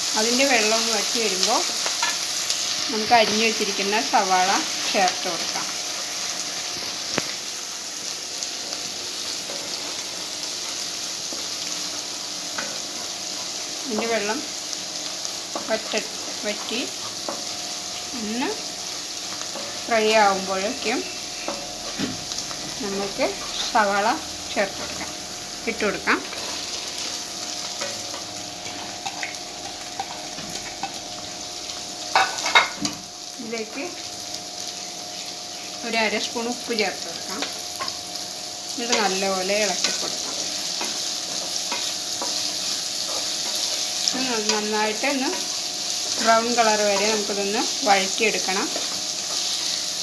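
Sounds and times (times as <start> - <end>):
aromatics sizzling in hot oil: 0.0 - 50.0.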